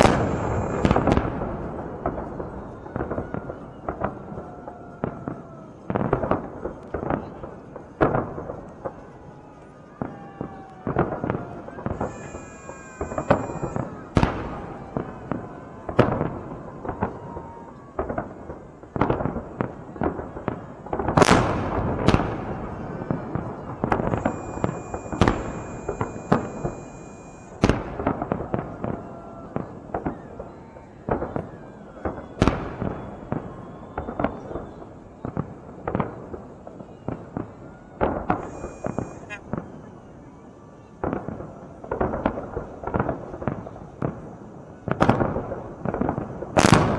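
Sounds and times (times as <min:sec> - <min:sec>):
fireworks bursts and bangs: 0:00.0 - 0:46.9.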